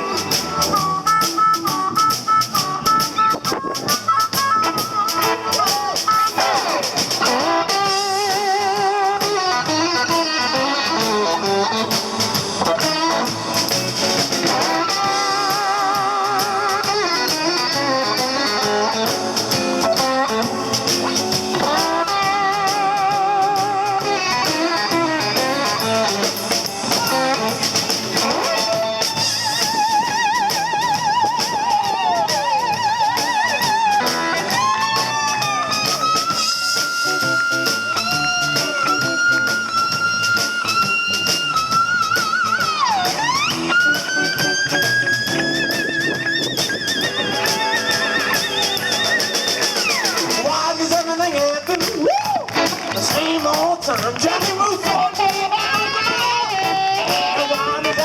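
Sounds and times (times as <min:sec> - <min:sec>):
blues band playing: 0:00.0 - 0:58.0
lead guitar with vibrato: 0:00.0 - 0:58.0.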